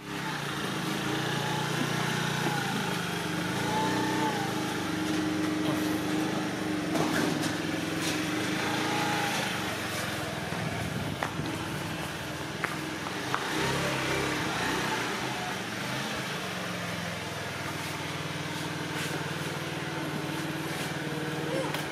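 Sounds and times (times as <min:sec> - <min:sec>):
motor scooter running: 0:00.0 - 0:21.9.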